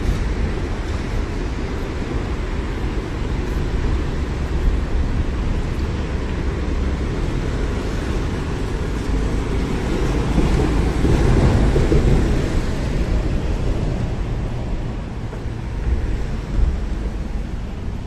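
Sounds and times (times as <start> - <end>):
traffic rumble: 0.0 - 18.0
wind buffeting microphone: 0.0 - 18.0.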